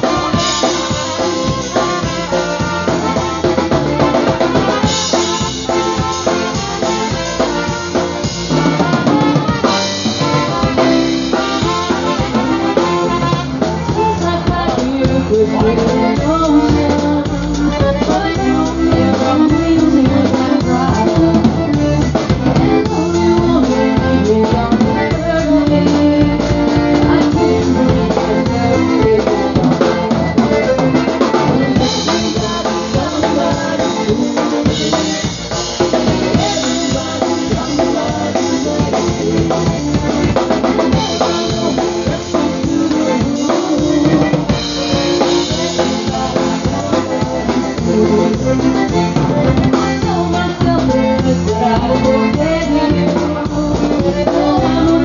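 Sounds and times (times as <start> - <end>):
button concertina: 0.0 - 55.0
drum kit steady beat: 0.0 - 55.0
polka band playing: 0.0 - 55.0.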